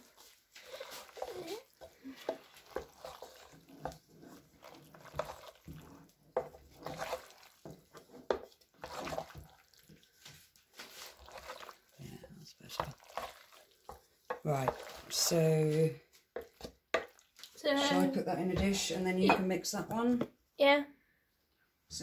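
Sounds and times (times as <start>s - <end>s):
pasta sauce squelching: 0.0s - 18.8s.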